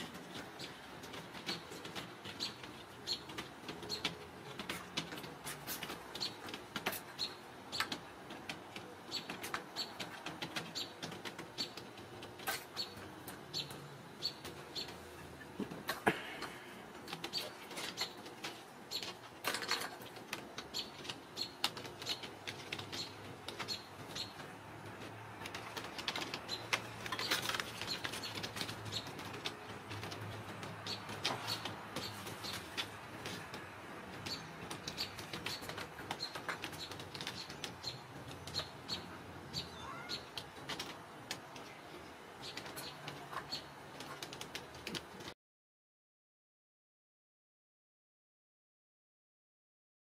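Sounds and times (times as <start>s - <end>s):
kittens scrambling on wood: 0.0s - 41.7s
small birds chirping: 0.0s - 45.3s.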